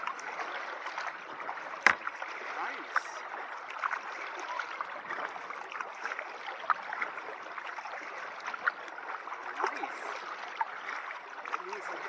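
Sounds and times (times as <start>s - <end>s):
kayak paddle strokes in water: 0.0s - 12.0s
water drips and splashes: 0.0s - 12.0s.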